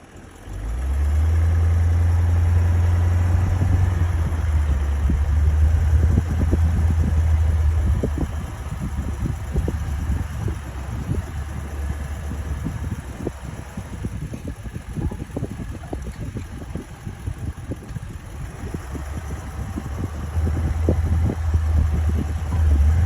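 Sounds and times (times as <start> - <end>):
low engine drone: 0.5 - 23.0.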